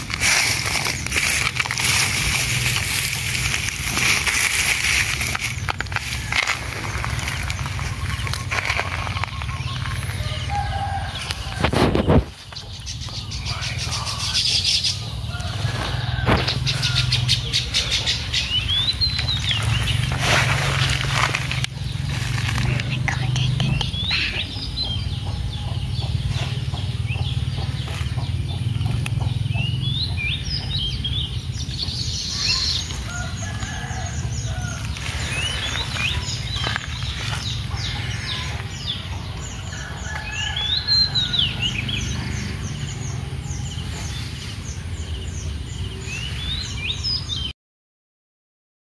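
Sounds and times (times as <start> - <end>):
birds chirping and twittering: 0.0 - 47.5.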